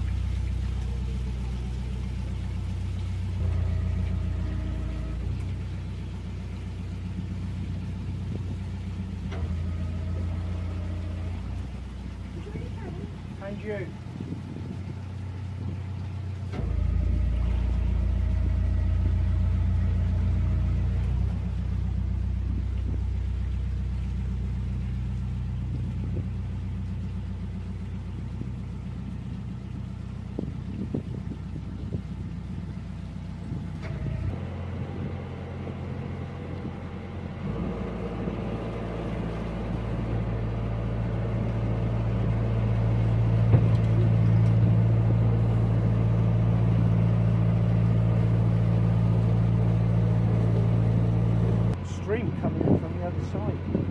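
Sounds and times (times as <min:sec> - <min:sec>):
boat diesel engine running: 0:00.0 - 0:53.9.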